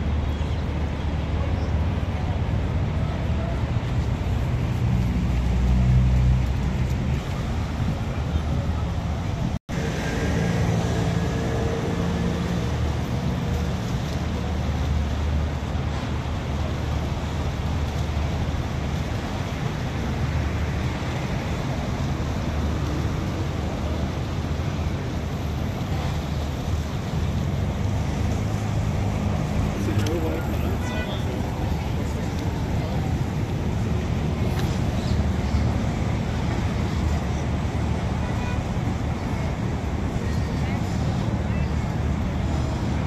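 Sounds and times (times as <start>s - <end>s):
city traffic rumble: 0.0s - 43.0s.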